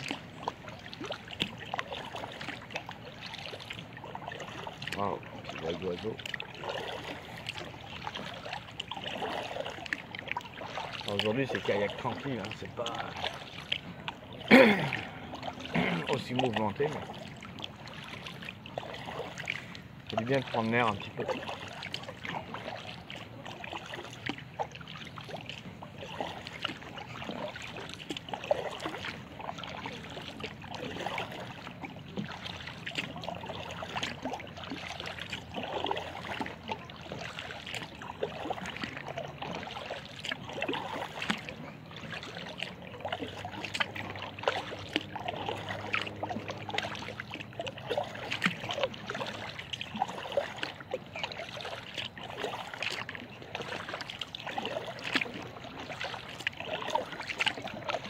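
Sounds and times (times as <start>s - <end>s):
paddle splashing in water: 0.0s - 58.0s.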